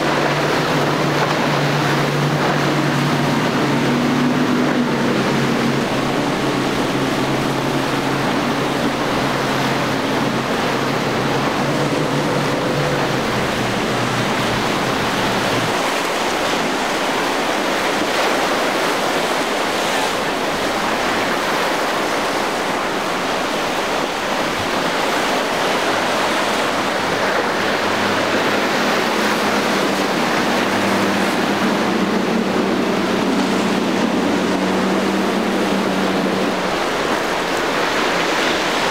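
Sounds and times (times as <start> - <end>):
motorboat engines droning: 0.0 - 38.9
surf rushing: 0.0 - 38.9
wind: 0.0 - 38.9.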